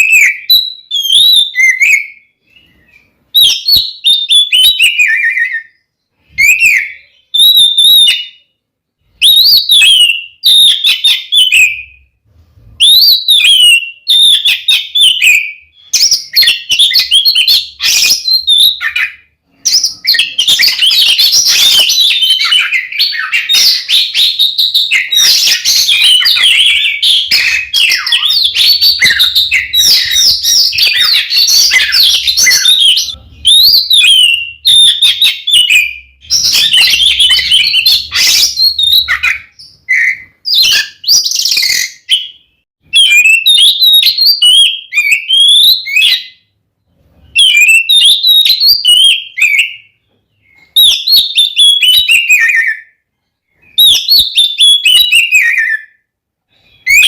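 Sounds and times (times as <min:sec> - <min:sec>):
bird singing loudly: 0:00.0 - 0:08.5, 0:09.2 - 0:12.1, 0:12.8 - 0:46.5, 0:47.3 - 0:53.0, 0:53.6 - 0:56.0, 0:56.6 - 0:57.0.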